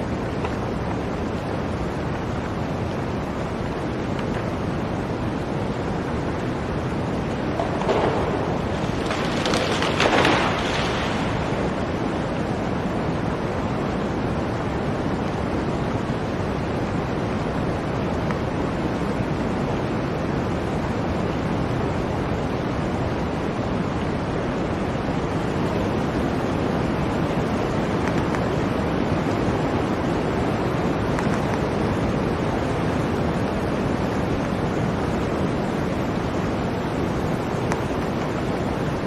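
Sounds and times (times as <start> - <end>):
blizzard wind blowing: 0.0 - 39.0.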